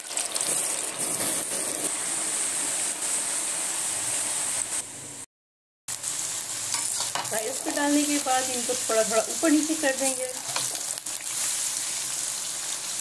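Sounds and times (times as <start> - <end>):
fries sizzling in hot oil: 0.0 - 4.9, 5.9 - 13.0.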